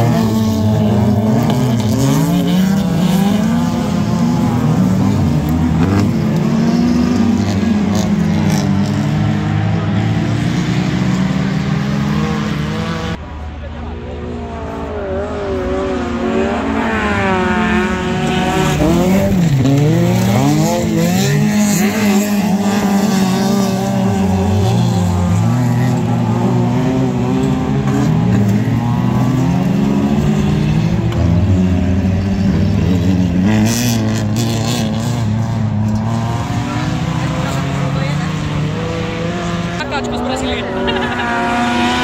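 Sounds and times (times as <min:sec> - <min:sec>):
racing car engines revving: 0:00.0 - 0:42.0.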